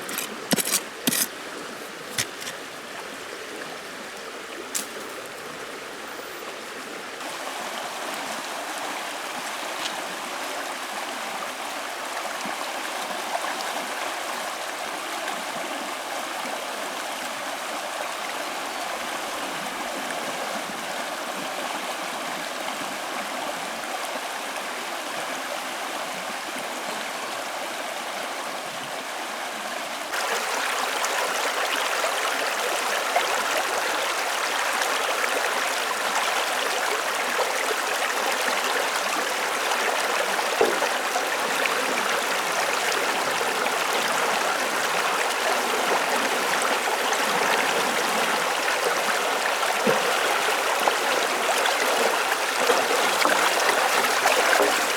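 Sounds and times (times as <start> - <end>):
stream water flowing: 0.0 - 54.9.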